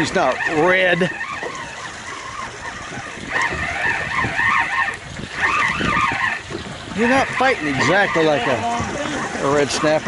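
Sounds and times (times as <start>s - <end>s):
fishing reel whirring: 0.0s - 10.0s.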